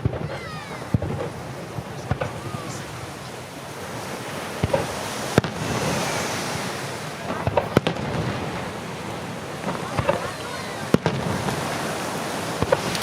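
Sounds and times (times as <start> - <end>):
crackling hiss: 0.0 - 13.0
fireworks bangs: 0.0 - 13.0.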